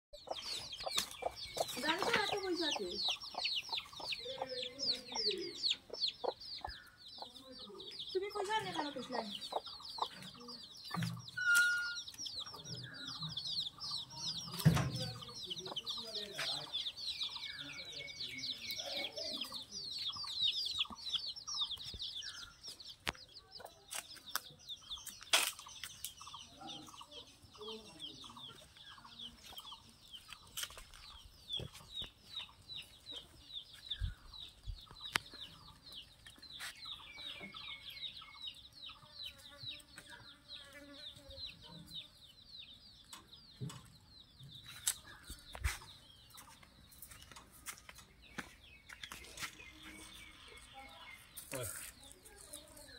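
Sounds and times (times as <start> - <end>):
chickens clucking: 0.1 - 52.9
dense high-pitched chirping: 0.1 - 52.9.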